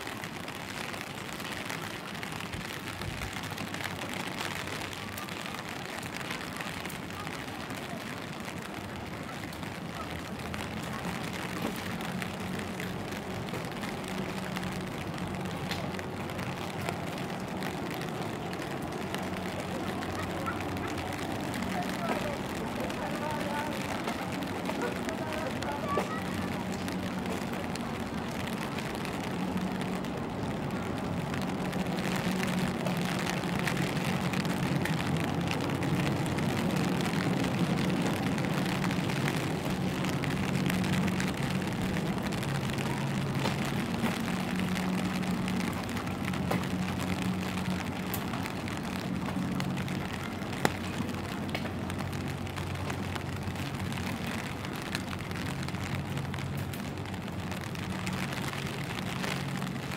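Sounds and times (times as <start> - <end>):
rain ticking on umbrella: 0.0 - 59.9
steady rain falling: 0.0 - 59.9.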